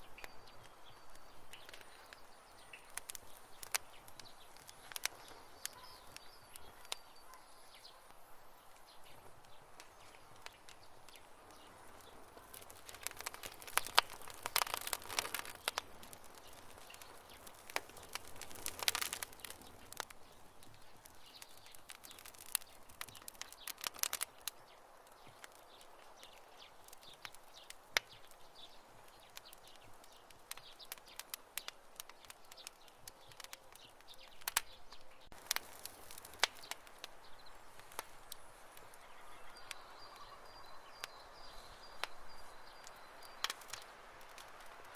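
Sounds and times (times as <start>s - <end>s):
campfire crackling and popping: 0.0s - 44.9s
faint steady hiss: 0.0s - 44.9s.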